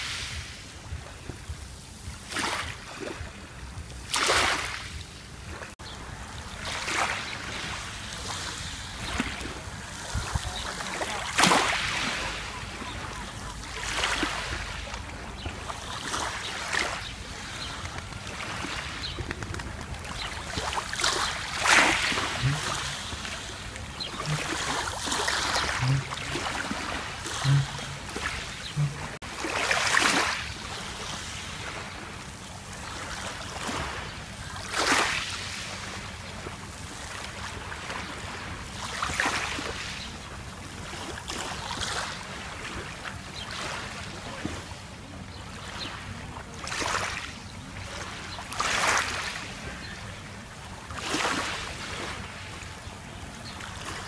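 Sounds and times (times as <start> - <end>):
small waves lapping on pebbles: 0.0 - 44.7, 45.3 - 52.7.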